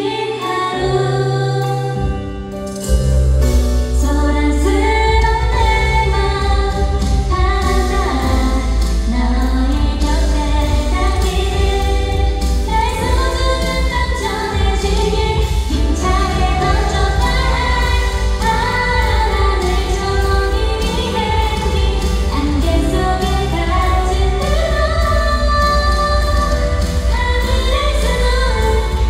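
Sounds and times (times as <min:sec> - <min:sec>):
instrumental backing: 0:00.0 - 0:29.0
woman singing pop song: 0:00.0 - 0:29.0.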